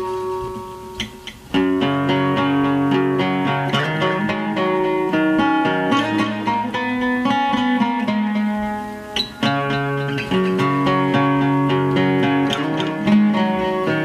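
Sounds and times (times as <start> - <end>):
plucked guitar chords: 0.0 - 14.0.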